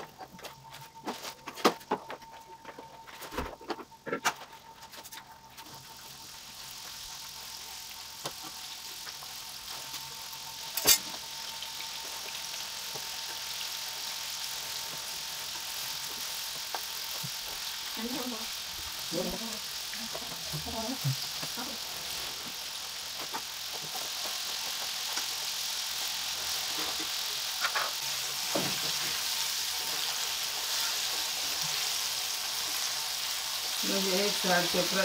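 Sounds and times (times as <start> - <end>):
chicken deep-frying in oil: 4.2 - 35.0.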